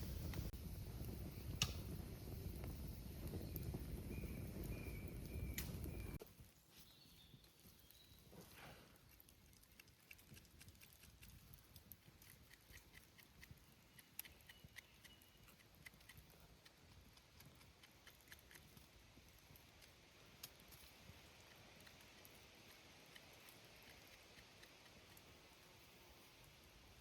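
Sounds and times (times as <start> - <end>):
faint clicks and crackles: 0.0 - 27.0.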